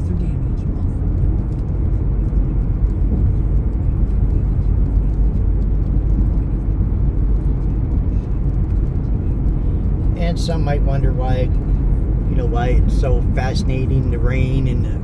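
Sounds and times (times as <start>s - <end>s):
car interior road and engine rumble: 0.0s - 15.0s.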